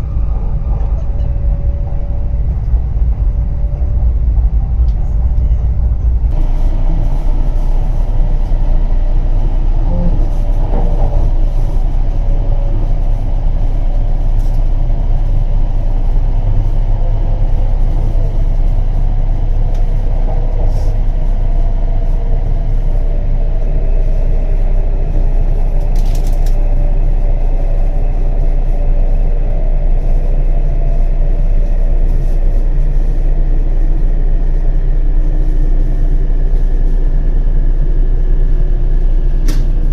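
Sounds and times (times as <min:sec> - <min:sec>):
train cabin deep rumble: 0:00.0 - 0:39.9.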